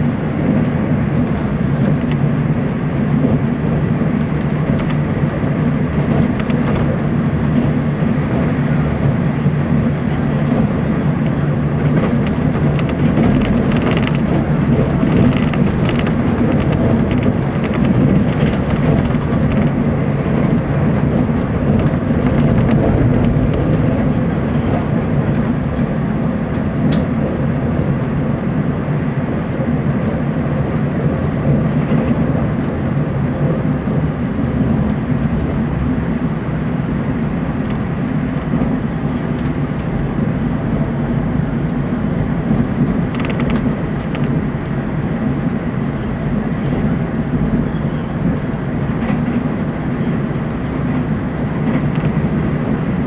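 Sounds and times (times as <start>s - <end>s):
train running rumble inside car: 0.0s - 53.0s.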